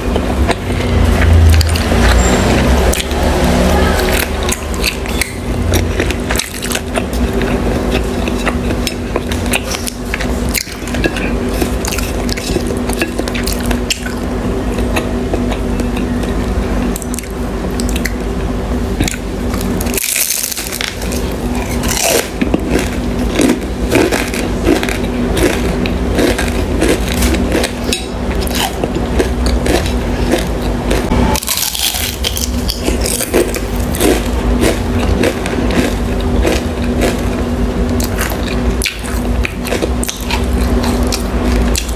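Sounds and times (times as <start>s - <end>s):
biting and chewing food: 0.0s - 41.9s
steady low hum: 0.0s - 41.9s.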